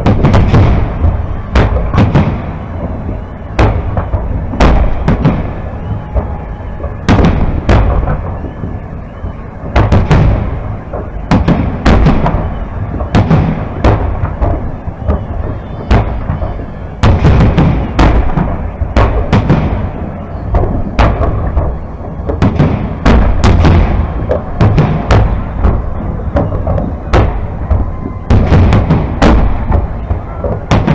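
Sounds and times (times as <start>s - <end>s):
fireworks booming overhead: 0.0s - 30.9s
rumbling: 0.0s - 30.9s.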